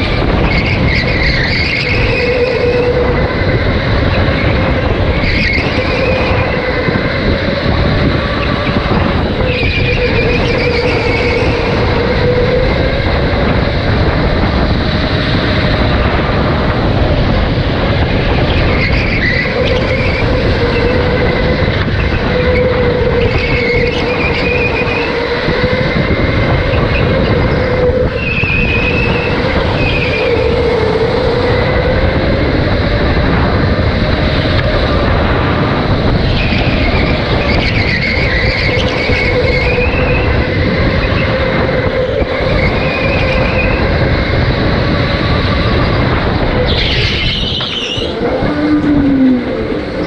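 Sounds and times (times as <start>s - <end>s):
electric motor whine: 0.0s - 50.0s
rumble of tires and chassis: 0.0s - 50.0s
tire squeals: 0.0s - 50.0s.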